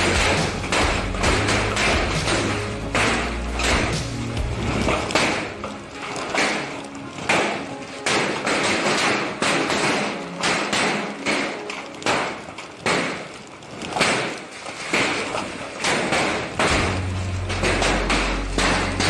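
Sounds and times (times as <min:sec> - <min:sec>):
hailstones pelting down: 0:00.0 - 0:19.0.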